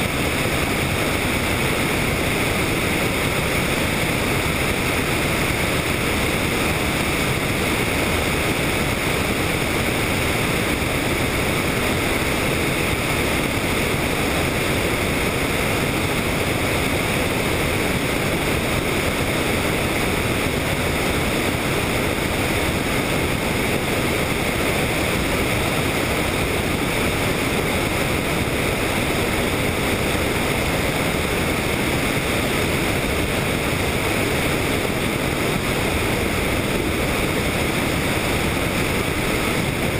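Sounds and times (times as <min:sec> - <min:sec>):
helicopter in flight: 0:00.0 - 0:39.9
wind on microphone: 0:00.0 - 0:39.9.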